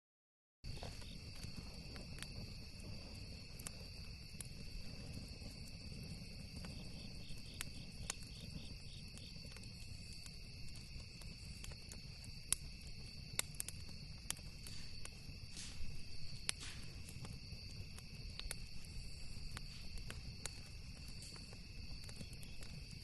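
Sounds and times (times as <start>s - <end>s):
campfire crackling and popping: 0.6s - 23.0s
crickets trilling: 0.7s - 23.0s.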